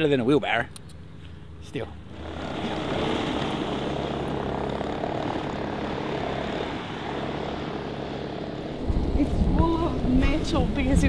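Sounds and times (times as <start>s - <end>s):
diesel engine droning: 0.8s - 11.0s.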